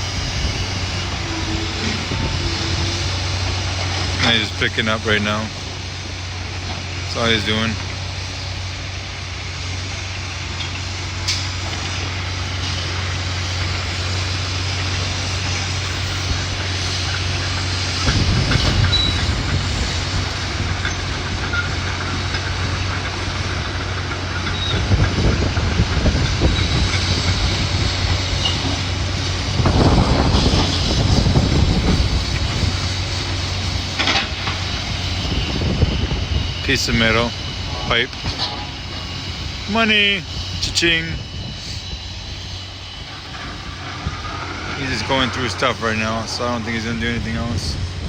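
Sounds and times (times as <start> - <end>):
excavator diesel engine humming: 0.0 - 48.0.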